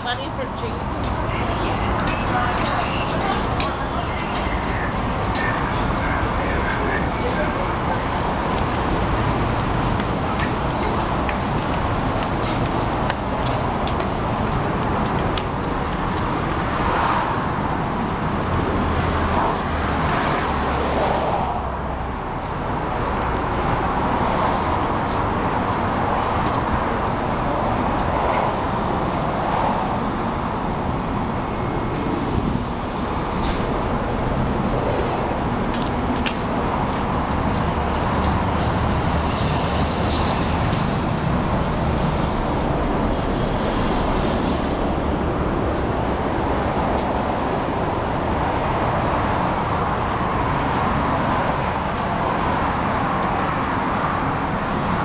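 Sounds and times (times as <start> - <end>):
outdoor noise: 0.0 - 55.0
trains humming and rumbling: 0.0 - 55.0.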